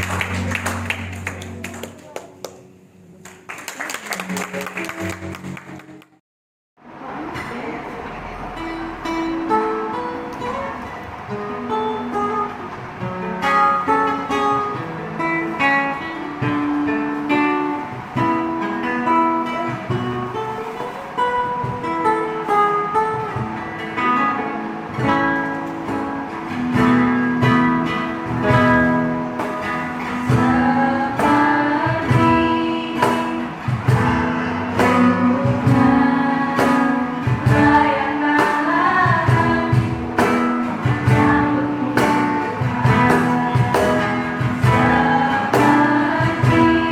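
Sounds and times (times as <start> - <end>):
guitar music: 0.0 - 3.2, 6.9 - 46.9.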